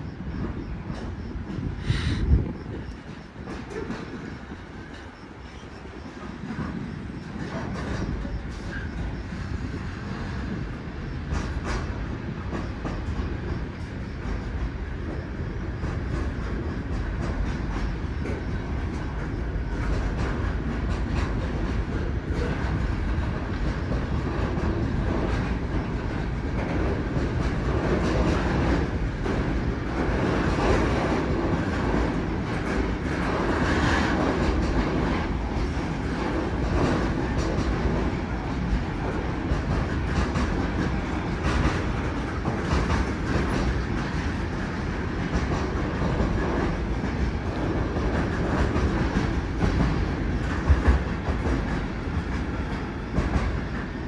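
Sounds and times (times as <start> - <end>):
train rumbling past: 0.0 - 54.0
wheels clicking over rail joints: 0.4 - 54.0.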